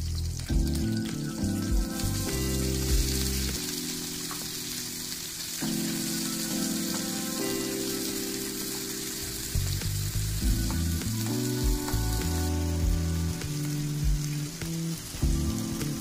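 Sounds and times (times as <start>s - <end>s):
background music: 0.0s - 16.0s
onions sizzling in hot oil: 0.0s - 16.0s.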